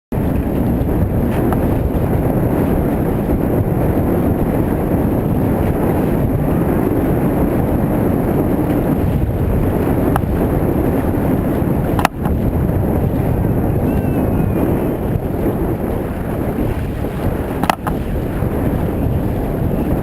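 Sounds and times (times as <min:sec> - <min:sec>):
wind buffeting microphone: 0:00.1 - 0:20.0.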